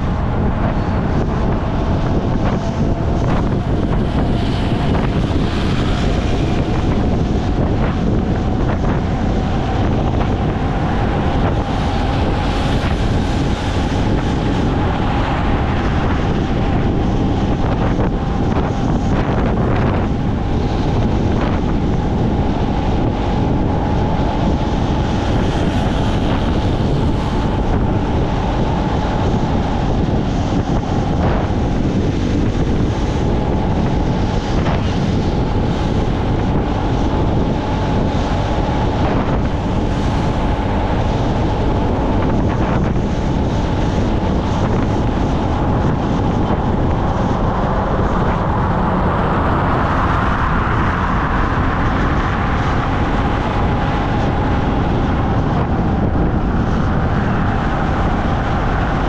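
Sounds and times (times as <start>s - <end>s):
faint whine: 0.0s - 59.0s
wind rumble on microphone: 0.0s - 59.0s.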